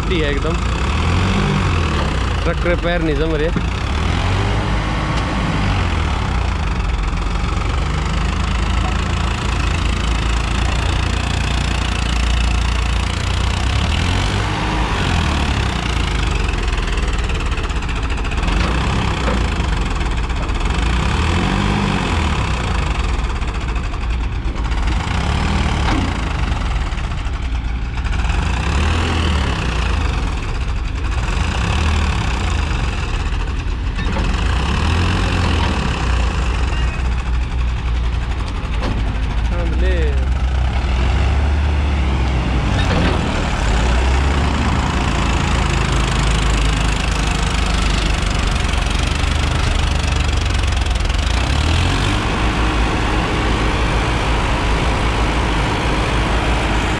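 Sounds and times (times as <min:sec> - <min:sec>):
tractor diesel engine labouring: 0:00.0 - 0:56.9.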